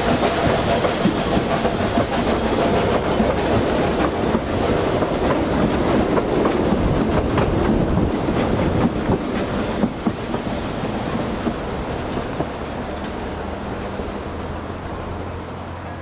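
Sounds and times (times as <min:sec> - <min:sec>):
train rumble: 0:00.0 - 0:16.0
train wheels clattering: 0:00.0 - 0:16.0.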